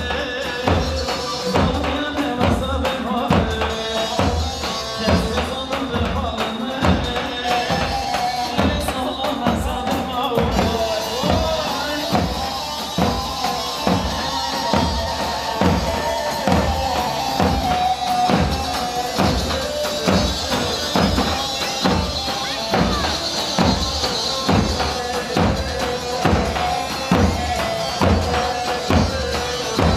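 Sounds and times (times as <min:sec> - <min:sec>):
steady drum beat: 0:00.0 - 0:29.9.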